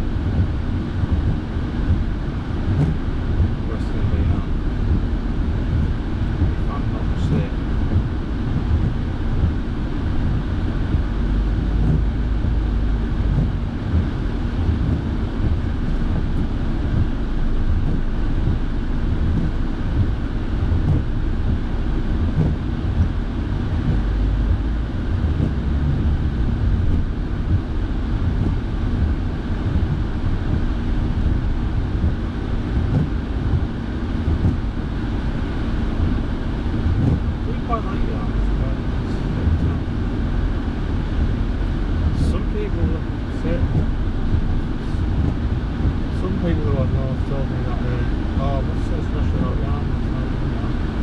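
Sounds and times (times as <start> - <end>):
engine and tyres on wet road: 0.0 - 51.0
heater fan blowing: 0.0 - 51.0.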